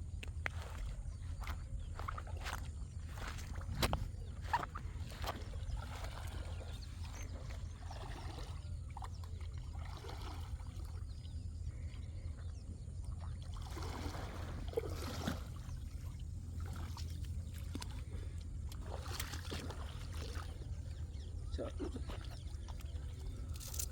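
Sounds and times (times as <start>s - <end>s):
water splashing and sloshing: 0.2s - 23.9s.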